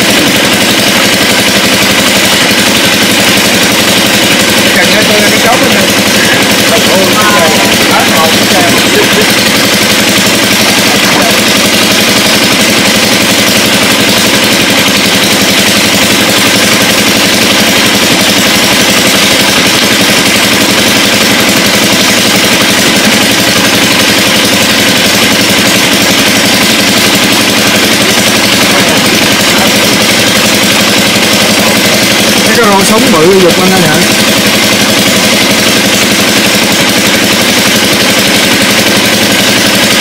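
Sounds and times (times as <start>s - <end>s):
small engine idling rapidly: 0.0s - 40.0s.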